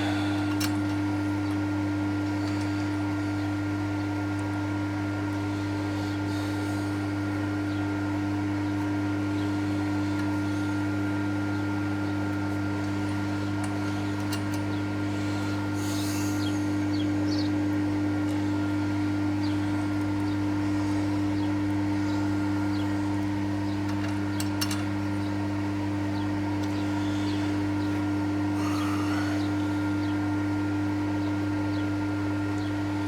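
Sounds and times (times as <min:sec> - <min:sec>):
milling machine motor humming: 0:00.0 - 0:33.0.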